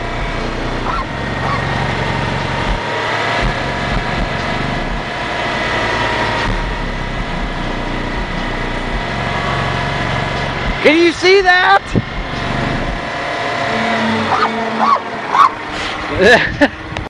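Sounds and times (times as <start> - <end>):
bass-heavy music from subwoofers: 0.0 - 17.0.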